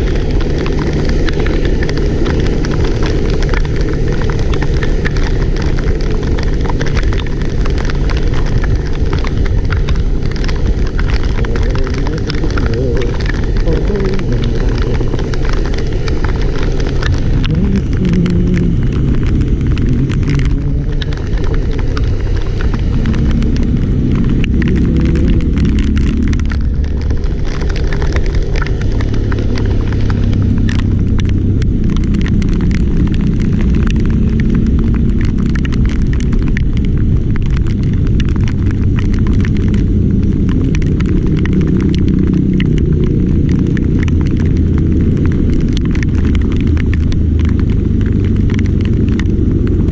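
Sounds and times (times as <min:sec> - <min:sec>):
vehicle engine rumbling: 0:00.0 - 0:49.9.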